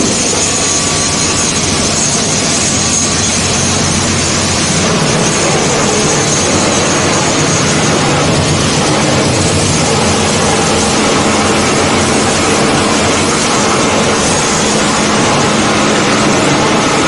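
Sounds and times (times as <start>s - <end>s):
loud mechanical din: 0.0s - 17.0s
low motor hum: 0.0s - 17.0s.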